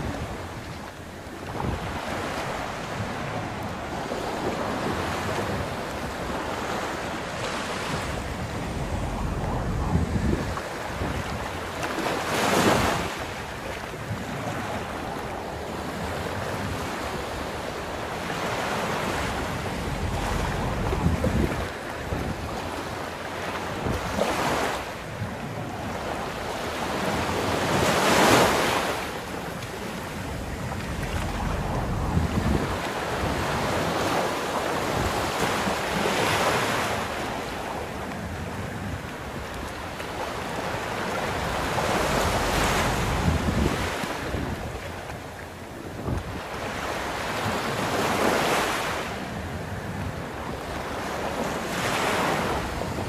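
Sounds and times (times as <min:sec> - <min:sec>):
surf breaking on beach: 0:00.0 - 0:49.4
wind rumble on microphone: 0:00.0 - 0:53.0.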